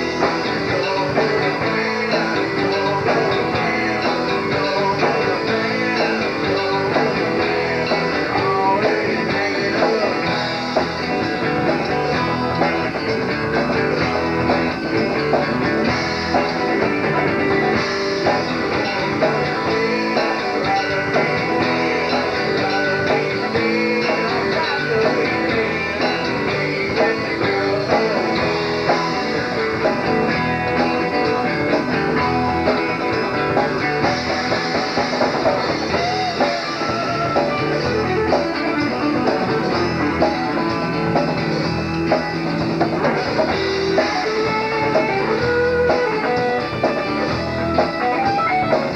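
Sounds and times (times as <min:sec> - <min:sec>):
rock band music: 0:00.0 - 0:48.9.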